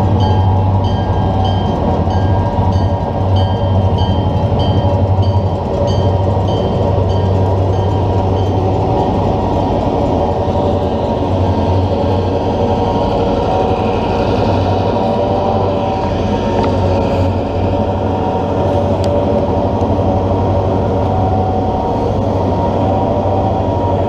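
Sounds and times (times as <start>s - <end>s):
train engine hum: 0.0s - 24.0s.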